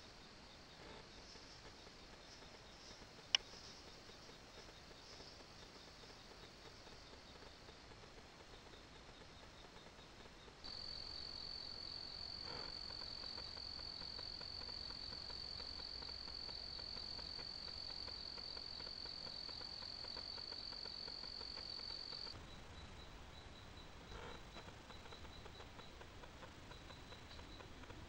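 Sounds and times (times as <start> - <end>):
faint pulsing insect call: 0.0 - 28.0.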